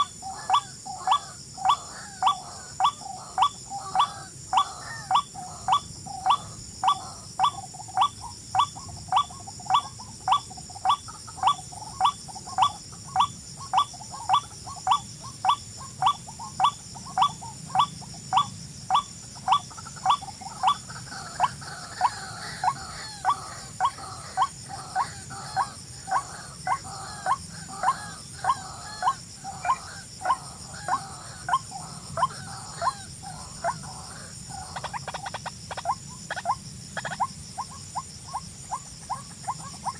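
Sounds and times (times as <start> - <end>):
birds chattering: 0.0 - 39.9
insect drone: 0.0 - 39.9.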